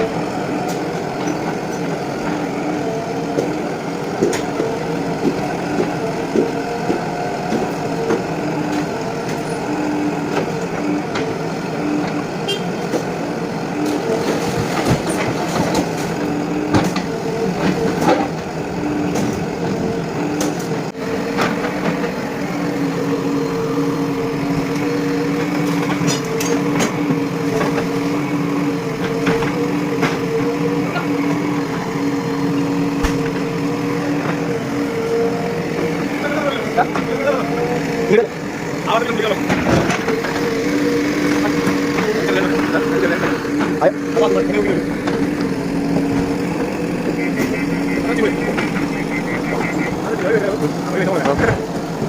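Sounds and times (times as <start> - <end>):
backhoe diesel engine running: 0.0 - 52.0.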